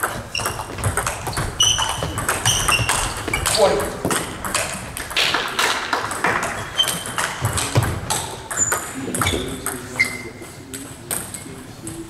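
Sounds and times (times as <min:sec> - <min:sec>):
table tennis balls clicking: 0:00.0 - 0:10.2.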